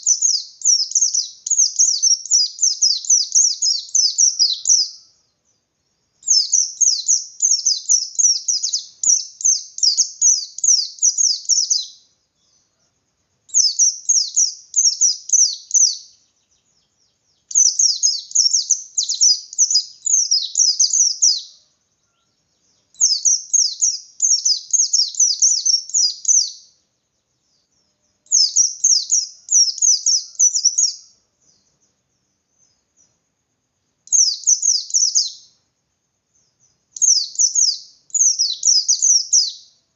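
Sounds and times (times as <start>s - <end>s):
bird singing rapid high chirps: 0.0s - 12.7s, 13.5s - 33.2s, 34.0s - 35.6s, 36.4s - 39.9s.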